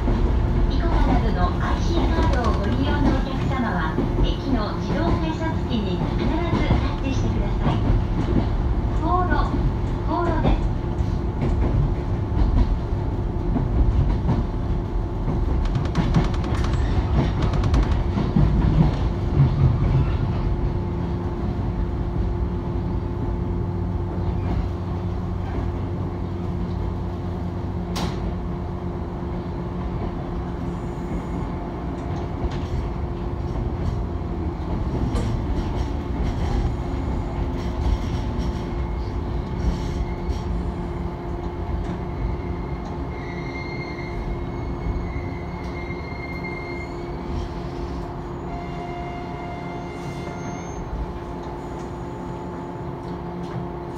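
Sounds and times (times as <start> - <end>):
train motor hum: 0.0 - 43.2, 49.4 - 53.9
wheel and rail rumble: 0.0 - 53.9.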